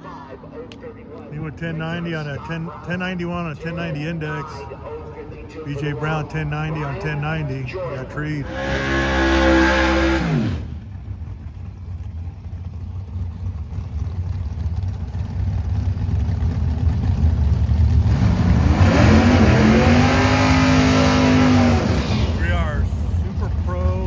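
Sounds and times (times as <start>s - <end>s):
low engine rumble: 0.0s - 24.0s
race car engine at full throttle: 0.6s - 24.0s.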